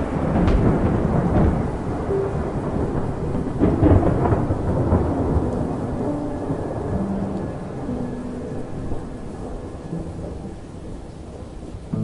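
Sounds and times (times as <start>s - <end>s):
rain: 0.0s - 12.0s
thunder rumbling: 0.0s - 12.0s.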